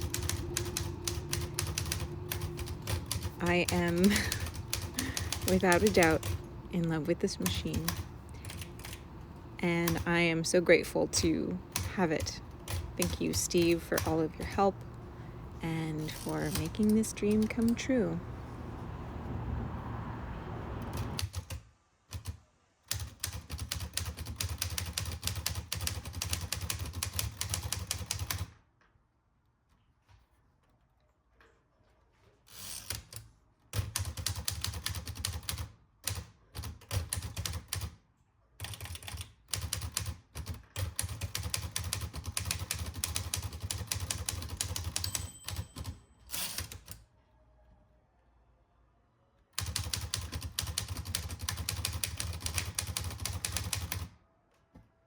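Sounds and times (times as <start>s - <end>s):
manual typewriter typing: 0.0s - 18.2s, 20.8s - 28.6s, 32.8s - 38.0s, 38.6s - 47.0s, 49.6s - 54.1s.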